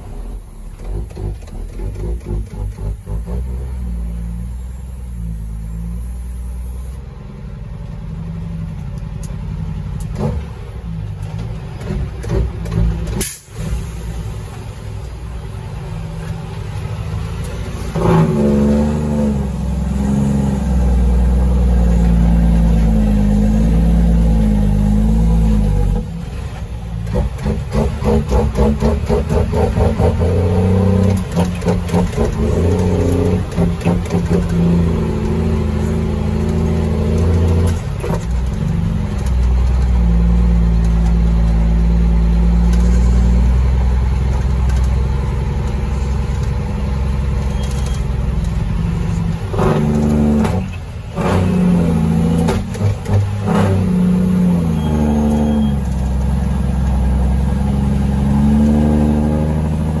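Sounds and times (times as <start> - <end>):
diesel truck engine under load: 0.0 - 60.0.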